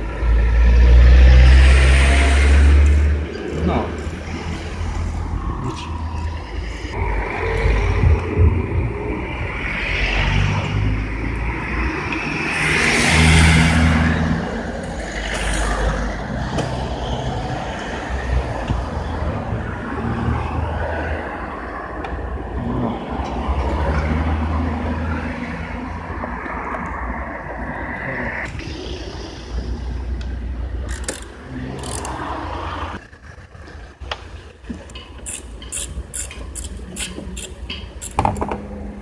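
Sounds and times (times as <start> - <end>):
rush of noise: 0.0 - 34.8.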